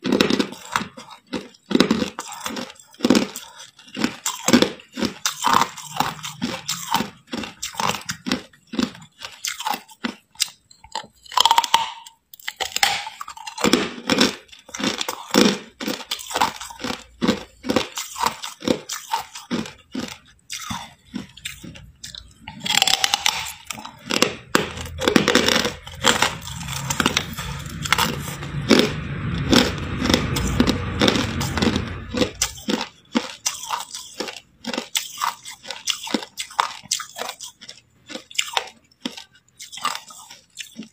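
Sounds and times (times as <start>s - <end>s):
person crunching ice: 0.0s - 40.9s.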